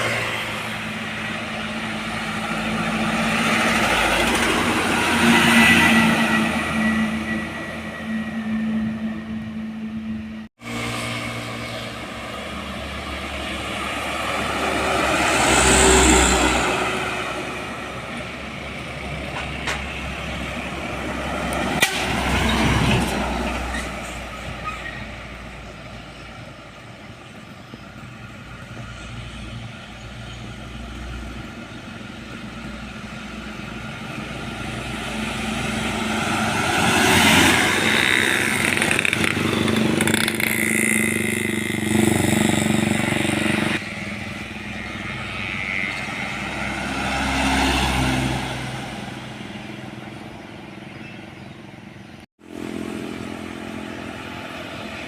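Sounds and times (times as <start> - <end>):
heavy vehicles passing: 0.0 - 55.0.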